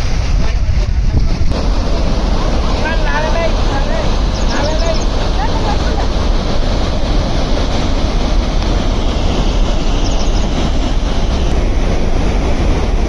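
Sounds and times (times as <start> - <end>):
floodwater rushing through dam gates: 1.5 - 13.0.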